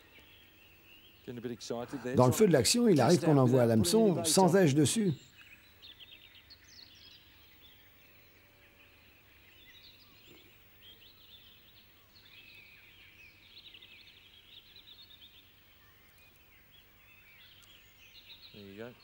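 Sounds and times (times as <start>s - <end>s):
faint songbird chirps and trills: 0.0s - 19.0s.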